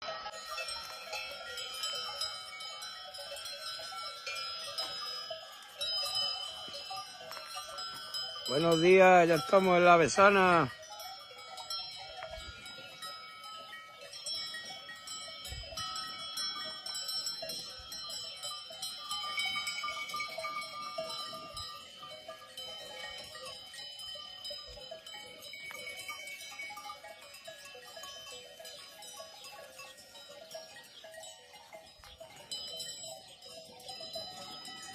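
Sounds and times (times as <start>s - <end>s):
goat neck bells clanking: 0.0s - 34.9s.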